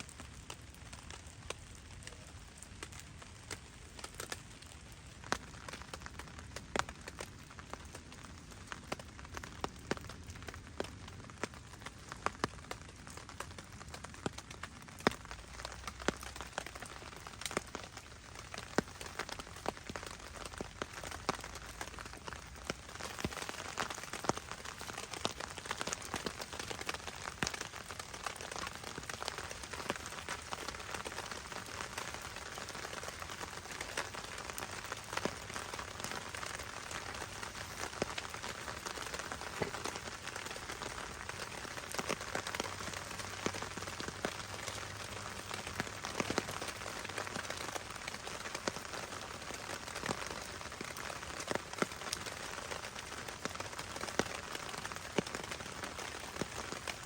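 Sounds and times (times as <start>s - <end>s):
sharp raindrop hits: 0.0s - 57.0s
steady rain hiss: 0.0s - 57.0s.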